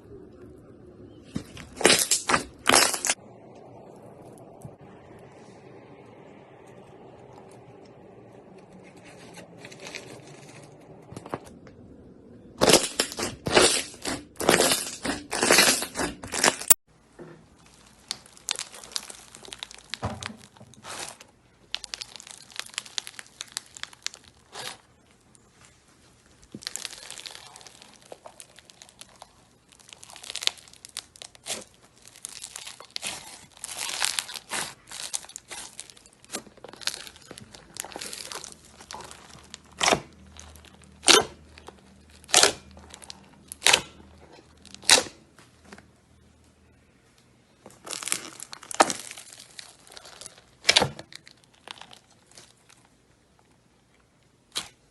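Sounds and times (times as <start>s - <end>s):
slime crackling and crunching: 1.1s - 11.5s, 12.5s - 16.8s, 17.4s - 45.9s, 47.7s - 54.9s.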